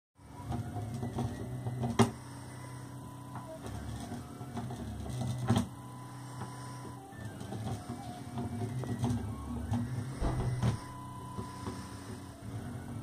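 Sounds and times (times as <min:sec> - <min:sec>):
small motors whirring: 0:00.2 - 0:13.0.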